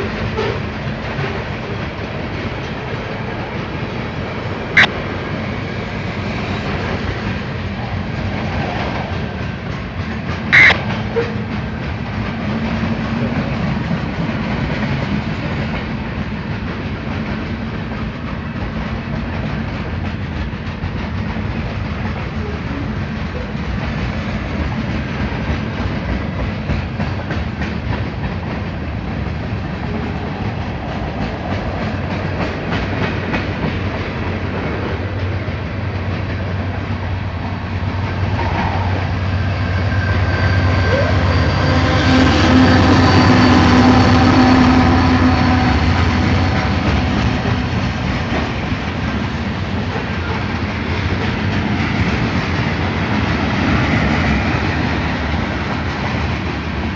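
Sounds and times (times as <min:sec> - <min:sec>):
low train rumble: 0:00.0 - 0:56.9
train wheels clattering over rail joints: 0:00.0 - 0:56.9.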